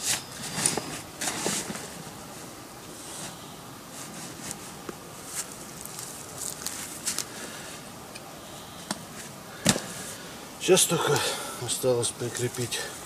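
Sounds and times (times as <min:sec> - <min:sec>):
camping gear rustling: 0:00.0 - 0:11.4.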